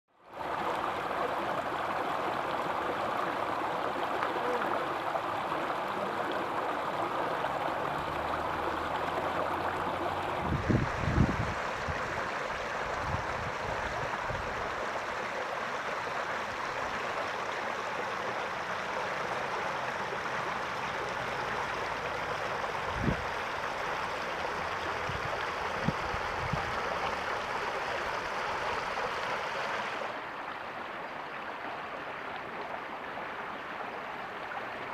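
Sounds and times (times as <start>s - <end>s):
rainwater rushing: 0.3s - 30.8s.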